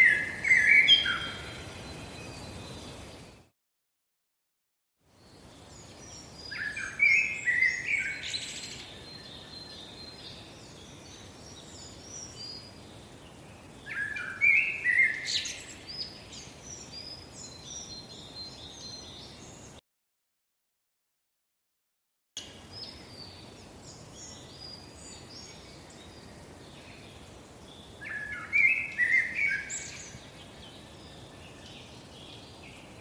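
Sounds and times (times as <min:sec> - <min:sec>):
background hiss: 0:00.0 - 0:03.5, 0:05.1 - 0:19.8, 0:22.4 - 0:33.0
songbirds singing: 0:00.0 - 0:03.5, 0:05.0 - 0:19.8, 0:22.4 - 0:33.0.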